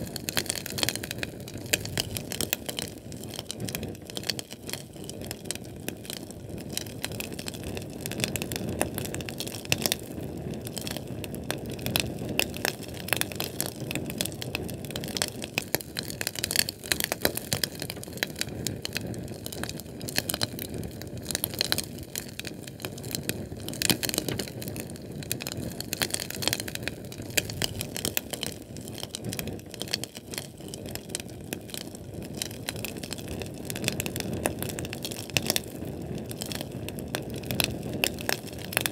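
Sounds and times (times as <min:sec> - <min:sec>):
crackling and popping: 0:00.0 - 0:38.9
flame burning with low rumble: 0:00.0 - 0:38.9.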